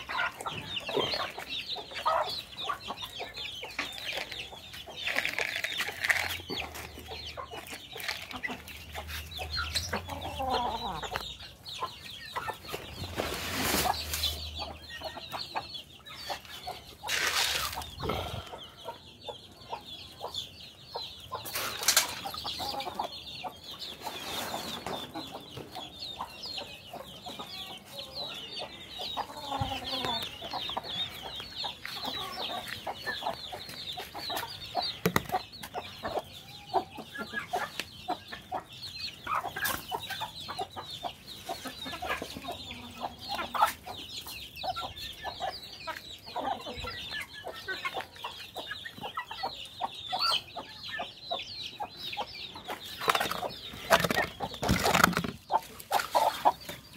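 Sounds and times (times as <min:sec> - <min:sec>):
chicks peeping: 0:00.0 - 0:56.9
poultry clucking: 0:00.0 - 0:56.9.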